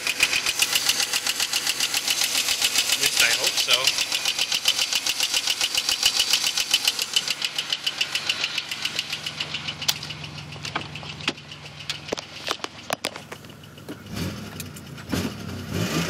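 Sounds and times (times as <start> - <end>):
engine running with fast ticking: 0.0 - 16.0.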